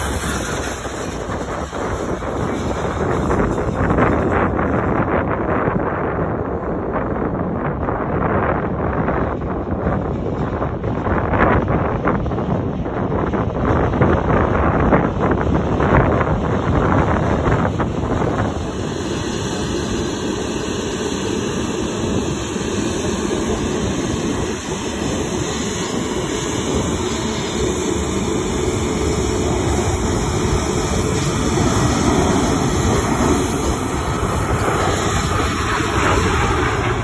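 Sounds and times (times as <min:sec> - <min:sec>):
jet engines running: 0:00.0 - 0:37.0
wind on microphone: 0:00.0 - 0:37.0.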